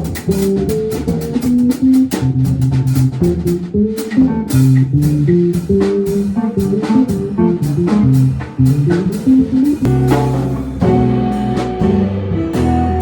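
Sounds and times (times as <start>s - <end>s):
drums and cymbals: 0.0s - 13.0s
plucked bass line: 0.0s - 13.0s.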